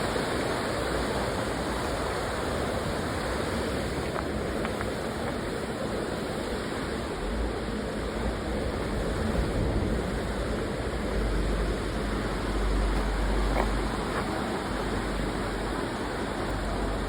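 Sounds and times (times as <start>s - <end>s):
water rushing over waterfalls: 0.0s - 17.0s.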